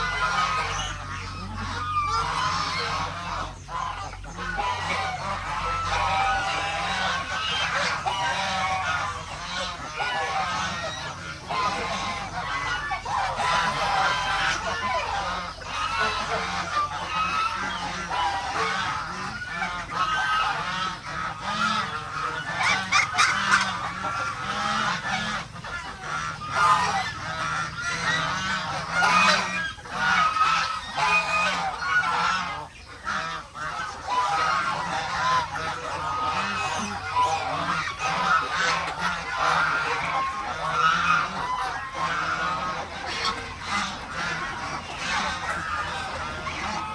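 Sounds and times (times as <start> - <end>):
geese and ducks honking: 0.0 - 46.9.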